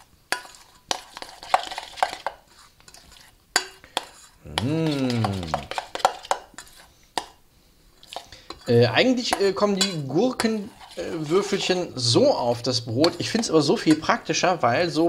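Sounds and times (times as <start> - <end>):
spoon scraping metal bowl: 0.0 - 7.0, 8.0 - 14.3.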